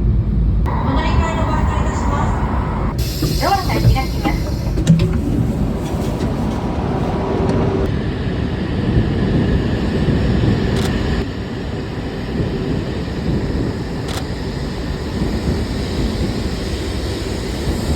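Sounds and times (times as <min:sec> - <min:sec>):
train running at speed: 0:00.0 - 0:17.9.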